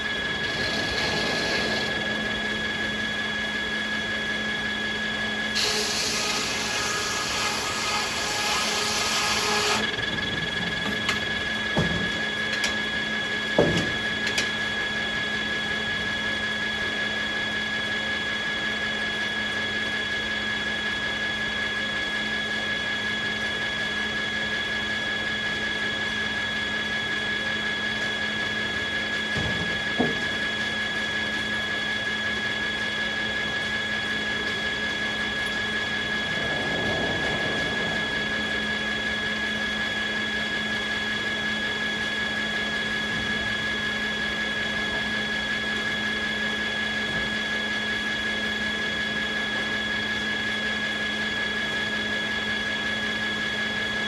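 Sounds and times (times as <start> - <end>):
sawmill machinery whining: 0.0 - 18.6, 22.0 - 54.0.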